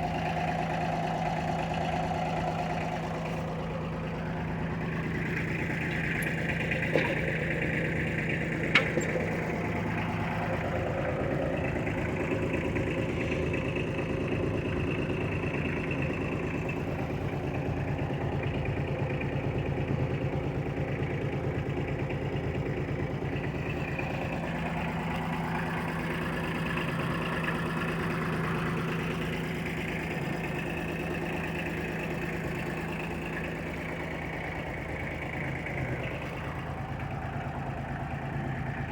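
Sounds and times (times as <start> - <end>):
tractor diesel engine idling: 0.0 - 38.9.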